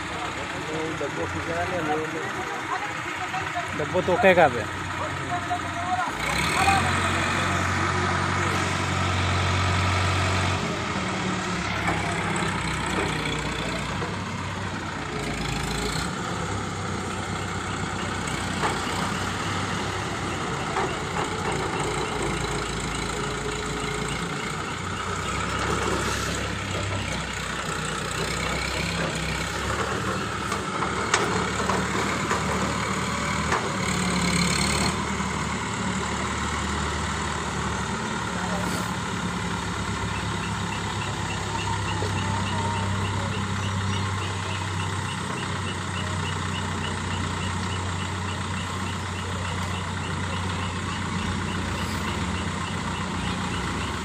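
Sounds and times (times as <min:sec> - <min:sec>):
crane diesel engine running: 0:00.0 - 0:54.0.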